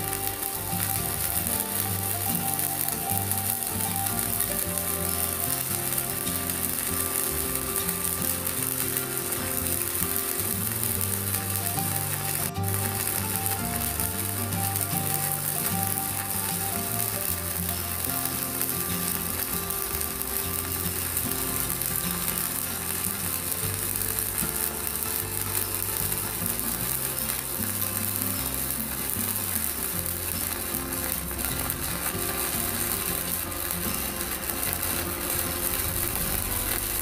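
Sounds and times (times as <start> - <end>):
background music with low notes: 0.0 - 37.0
welding arc crackling and sizzling: 0.0 - 37.0.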